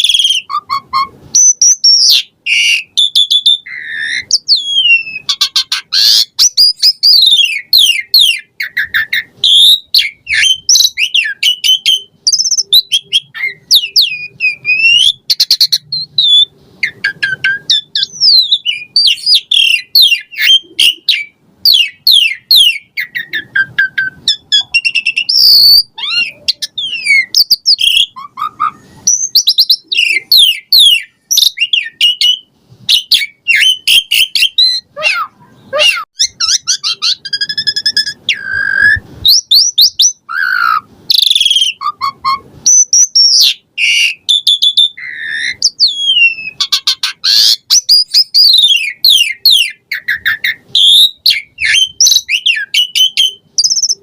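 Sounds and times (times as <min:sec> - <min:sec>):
starling singing varied song: 0:00.2 - 0:54.0.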